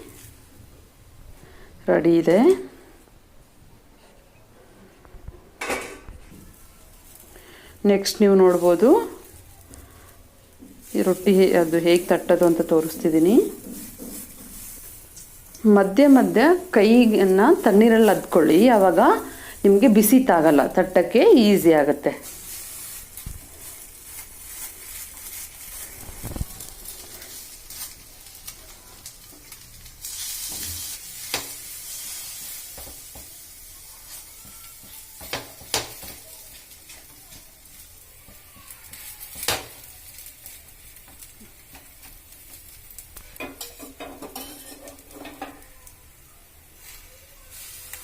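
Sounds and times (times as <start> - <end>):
oil sizzling in a pan: 0.0 - 2.0, 6.3 - 48.0.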